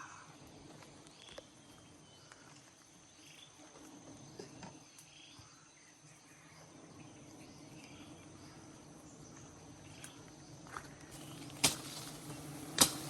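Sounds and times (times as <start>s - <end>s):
high insect-like tone: 1.2s - 13.0s.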